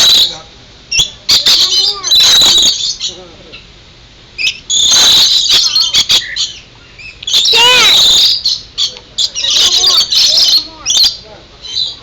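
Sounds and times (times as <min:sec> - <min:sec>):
birds squawking loudly: 0:00.0 - 0:03.7, 0:04.4 - 0:12.0.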